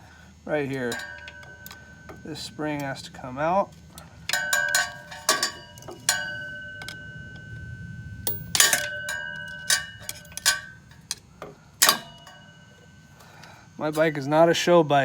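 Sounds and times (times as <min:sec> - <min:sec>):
metallic ringing: 0:00.0 - 0:15.0
screwdriver striking metal: 0:00.6 - 0:13.1.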